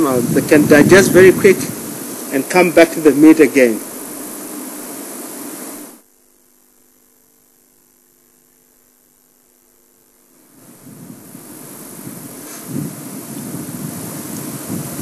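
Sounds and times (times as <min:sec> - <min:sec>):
faint electrical hum: 0:00.0 - 0:15.0
steady hiss: 0:00.0 - 0:15.0.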